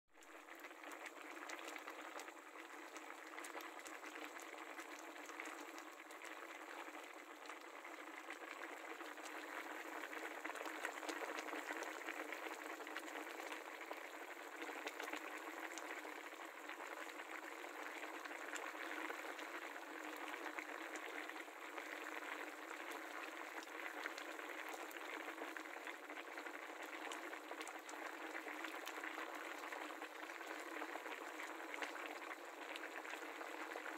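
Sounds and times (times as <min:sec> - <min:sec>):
curry bubbling in a pan: 0:00.1 - 0:33.9.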